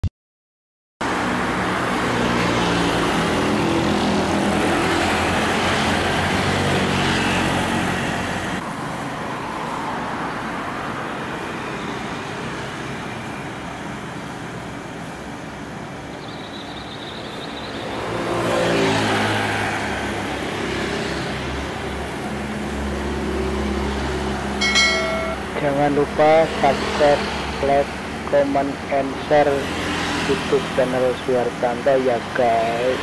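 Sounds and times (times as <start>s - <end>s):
vehicle approaching: 1.0s - 13.3s, 17.8s - 33.0s
hum of passing traffic: 1.0s - 33.0s.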